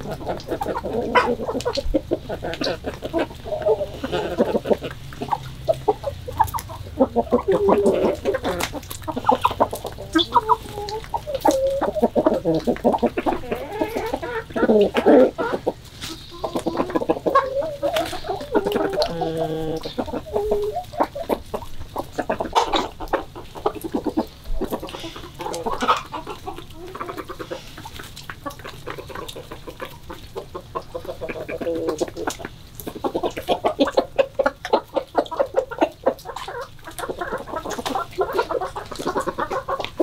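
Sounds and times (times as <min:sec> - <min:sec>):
chickens clucking and calling: 0:00.0 - 0:40.0.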